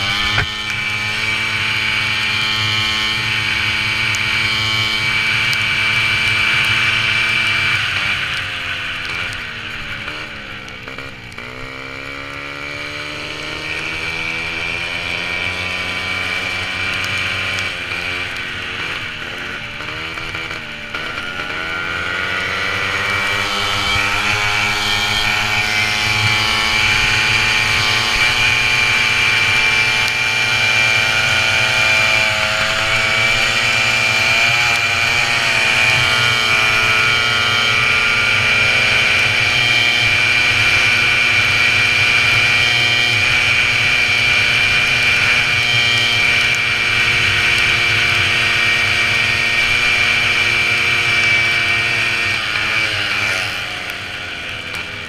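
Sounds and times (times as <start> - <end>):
small two-stroke moped engine: 0.0 - 55.0.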